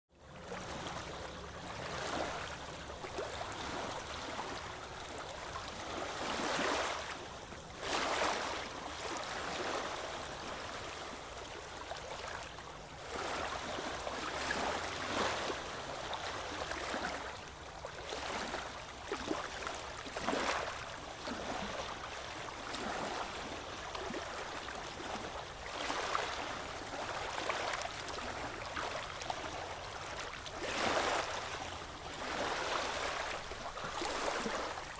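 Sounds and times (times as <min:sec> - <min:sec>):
ocean waves washing onto beach: 0:00.3 - 0:34.9.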